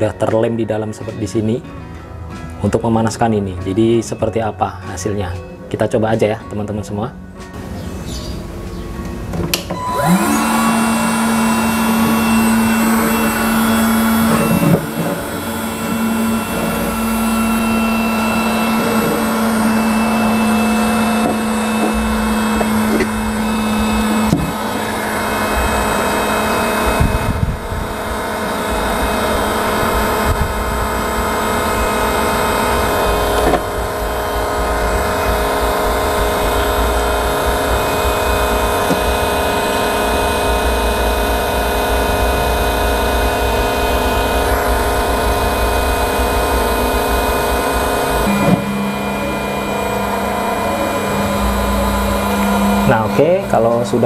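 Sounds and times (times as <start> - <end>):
steady hum: 7.2 - 54.0
heat gun fan blowing air: 7.6 - 54.0.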